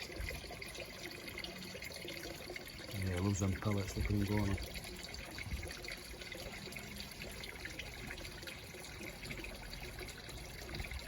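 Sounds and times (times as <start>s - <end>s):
pond waterfall trickling: 0.0s - 11.0s.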